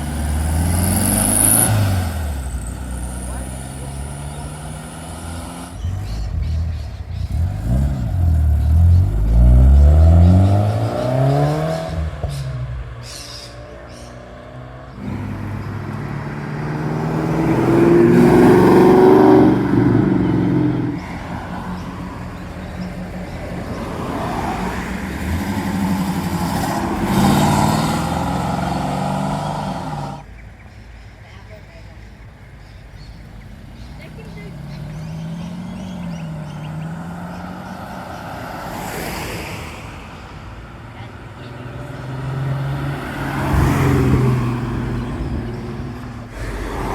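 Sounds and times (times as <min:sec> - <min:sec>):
cars accelerating hard: 0:00.0 - 0:30.2, 0:33.4 - 0:46.9.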